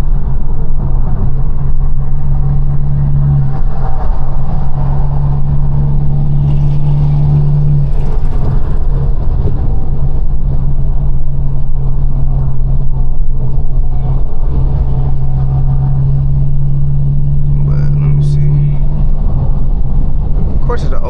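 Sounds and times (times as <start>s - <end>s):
car exhaust droning: 0.0s - 21.0s.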